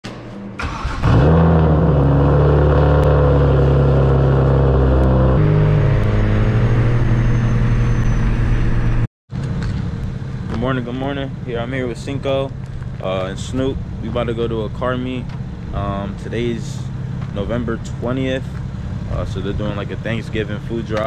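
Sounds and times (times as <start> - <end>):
car engine starting and idling: 0.4 - 21.0.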